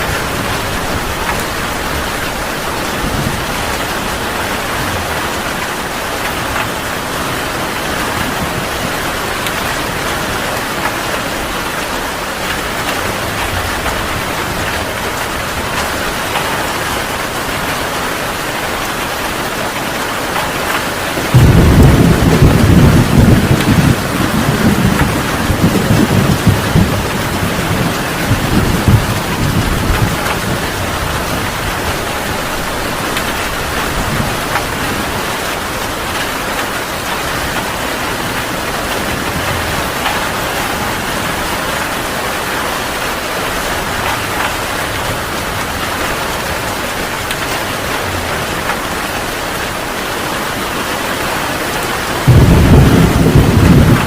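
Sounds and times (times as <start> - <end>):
thunder rumbling: 0.0 - 17.8, 20.3 - 50.9, 52.0 - 54.0
heavy rain falling: 0.0 - 54.0.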